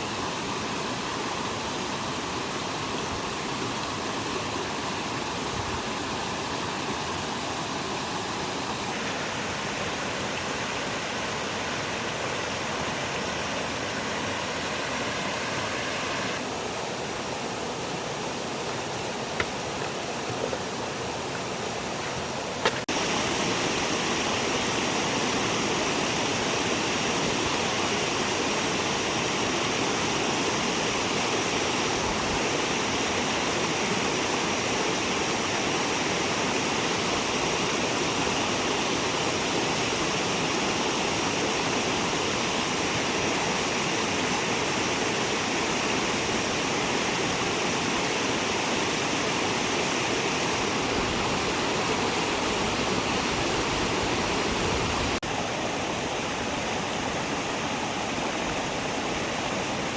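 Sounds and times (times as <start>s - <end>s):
stream water rushing over stones: 0.0s - 59.9s.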